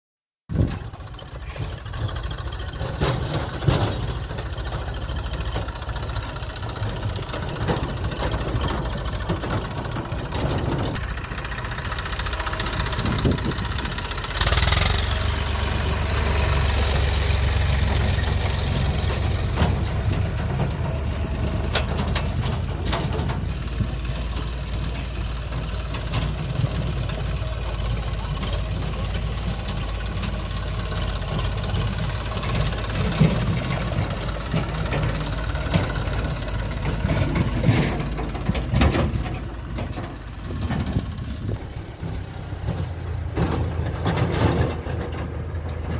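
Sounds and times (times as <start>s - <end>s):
diesel engine under load: 0.4s - 45.9s
metal clanks: 0.5s - 15.2s, 15.8s - 45.9s.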